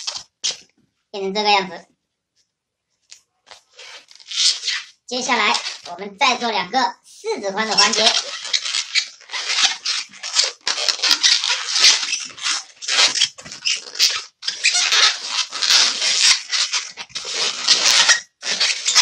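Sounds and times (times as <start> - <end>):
balloon rubbing and squeaking: 0.0 - 0.6, 3.5 - 19.0.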